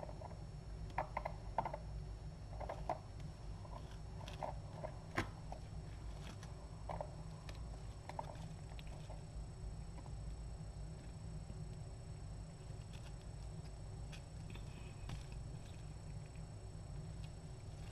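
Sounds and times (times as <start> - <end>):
low hum: 0.0 - 17.9.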